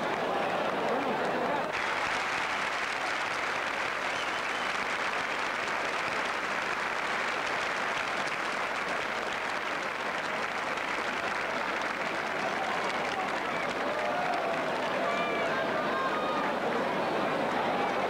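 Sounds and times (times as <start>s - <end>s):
large crowd applauding: 0.0s - 18.0s.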